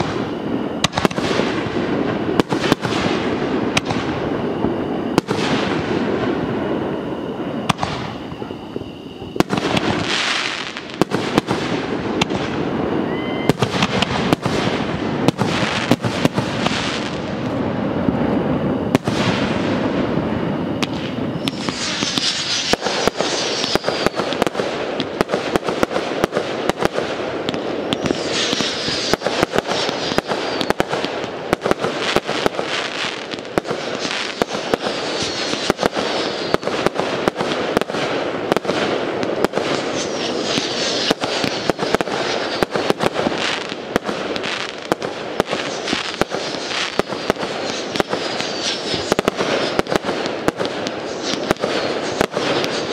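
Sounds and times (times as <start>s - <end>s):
fireworks bangs and pops: 0.0s - 6.7s, 7.6s - 52.9s
fireworks crackling: 0.0s - 52.9s.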